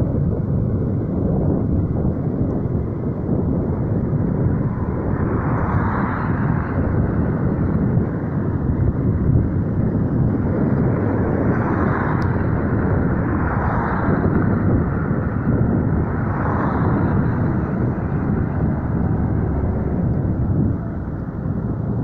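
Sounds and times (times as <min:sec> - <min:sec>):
wind rush over microphone: 0:00.0 - 0:22.0.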